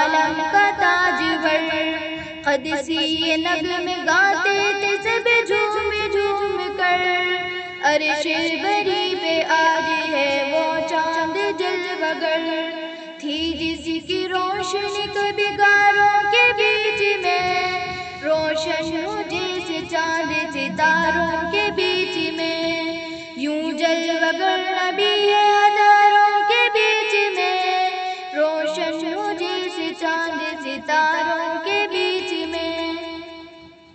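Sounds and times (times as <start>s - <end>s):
woman singing devotional song: 0.0s - 33.9s.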